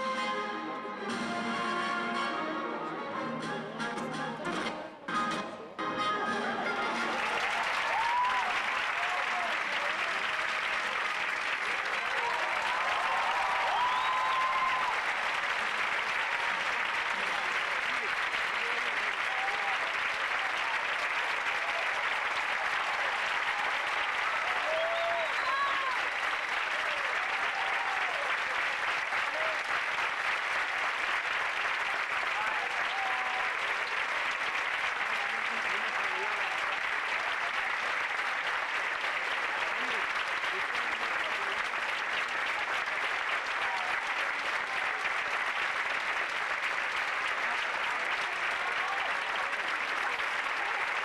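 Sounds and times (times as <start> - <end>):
audience applauding: 6.4 - 51.0.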